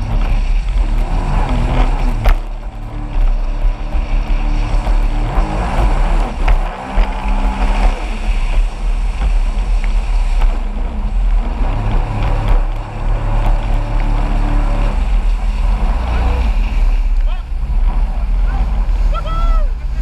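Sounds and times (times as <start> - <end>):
jet ski engine: 0.0 - 20.0
wind rumble on microphone: 0.0 - 20.0.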